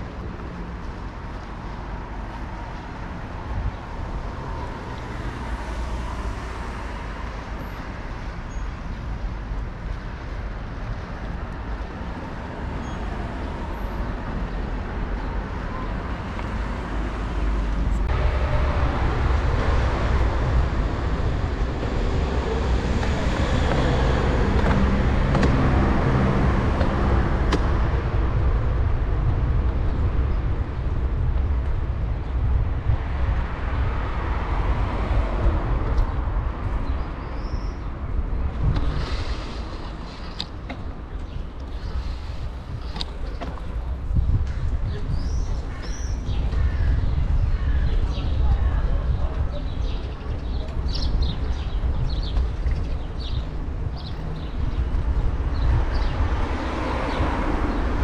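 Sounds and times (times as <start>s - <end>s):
road traffic: 0.0s - 58.0s
wind rumble on microphone: 0.0s - 58.0s.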